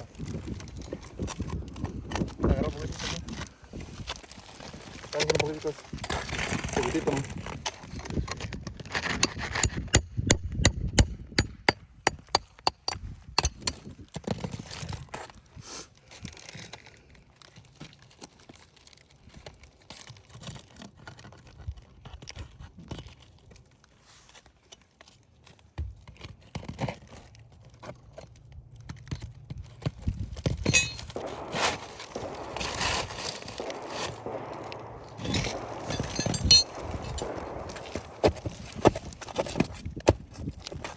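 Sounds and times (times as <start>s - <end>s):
sharp clicks and taps on shingles: 0.0s - 15.4s, 16.0s - 40.9s.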